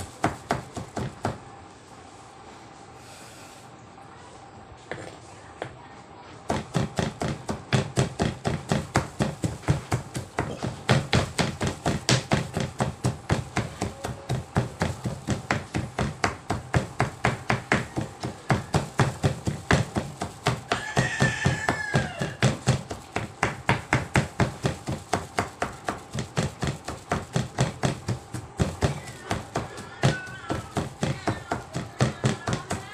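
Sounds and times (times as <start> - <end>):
knife chopping on plastic board: 0.1 - 1.4, 6.5 - 32.9.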